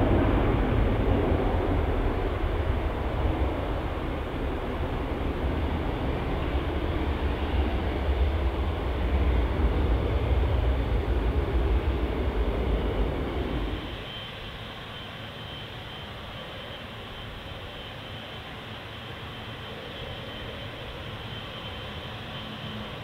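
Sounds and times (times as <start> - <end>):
faint high whine: 0.0 - 23.0
jet engines hissing at low power: 0.0 - 23.0
jet engines roaring: 0.0 - 23.0.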